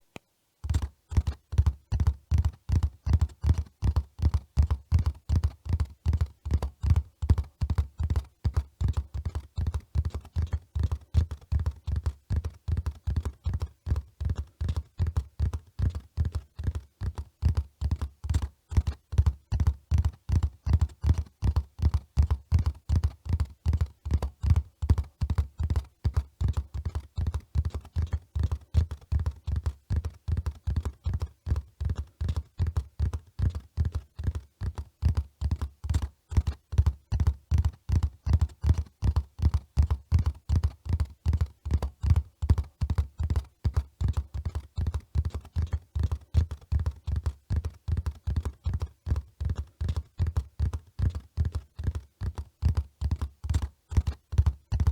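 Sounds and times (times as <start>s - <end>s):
horse hoofbeats: 1.2s - 54.9s.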